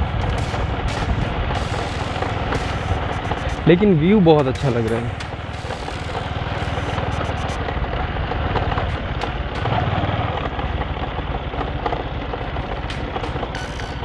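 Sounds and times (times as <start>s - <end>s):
small motorbike engine running: 0.0s - 14.0s.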